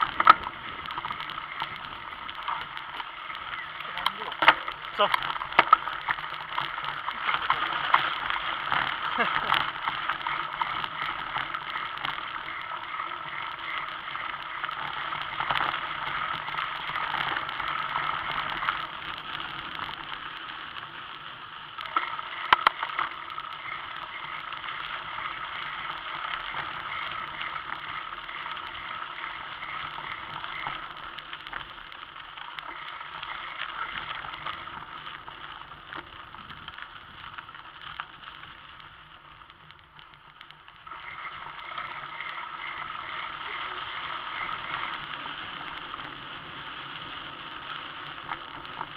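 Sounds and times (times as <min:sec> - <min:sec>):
bicycle clatter: 0:00.0 - 0:48.9
bicycle tyres and rattle on dirt: 0:00.0 - 0:48.9.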